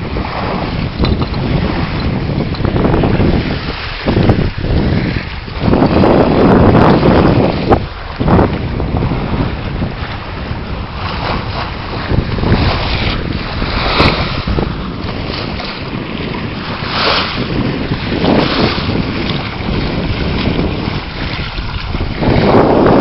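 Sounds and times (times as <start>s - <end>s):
water rushing past hull: 0.0s - 23.0s
wind buffeting microphone: 0.0s - 23.0s.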